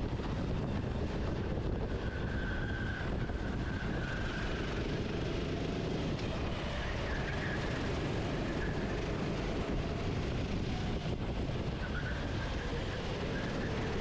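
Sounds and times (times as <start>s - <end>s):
kart engine at speed: 0.0s - 14.0s
wind noise on microphone: 0.0s - 14.0s.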